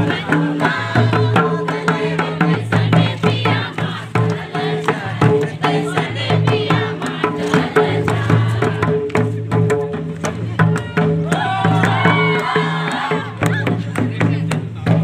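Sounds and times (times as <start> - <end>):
voices singing: 0.0 - 14.6
hand-beaten barrel drum: 0.0 - 15.0.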